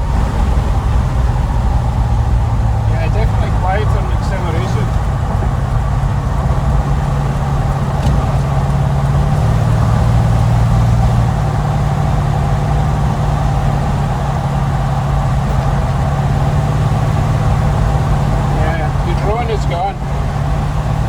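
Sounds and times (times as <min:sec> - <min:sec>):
low engine exhaust drone: 0:00.0 - 0:21.0.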